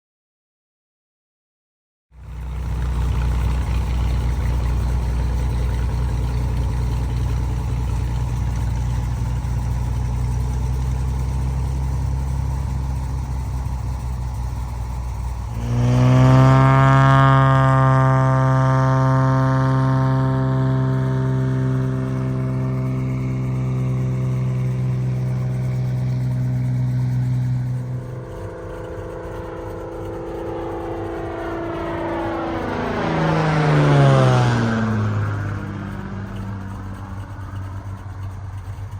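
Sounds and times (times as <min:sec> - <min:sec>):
piston engine droning: 0:02.2 - 0:38.9.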